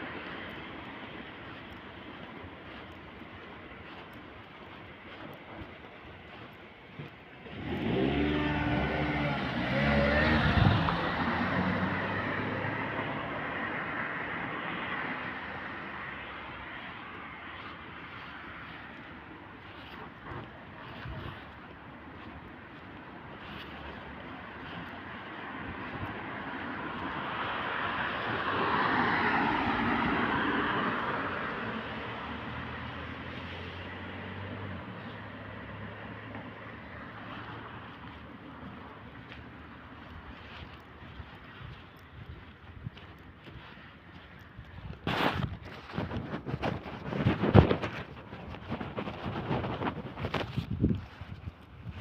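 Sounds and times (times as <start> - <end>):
vehicle passing by: 4.8 - 52.0.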